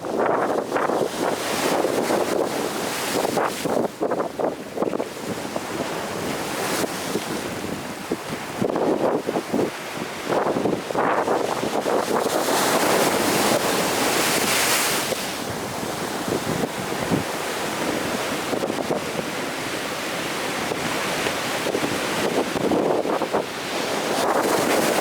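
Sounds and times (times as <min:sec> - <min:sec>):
ocean waves crashing on shore: 0:00.0 - 0:25.0.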